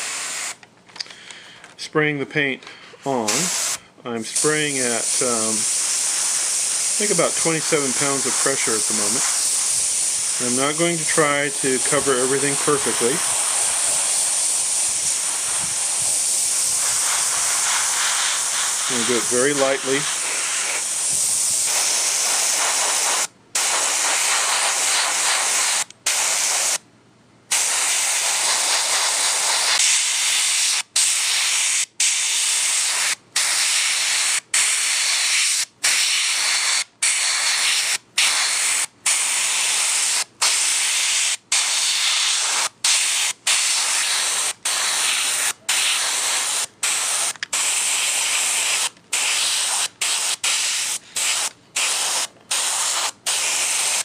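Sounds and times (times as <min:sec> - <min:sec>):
airbrush spraying paint: 0:00.0 - 0:00.6, 0:03.1 - 0:26.8, 0:27.5 - 0:54.0.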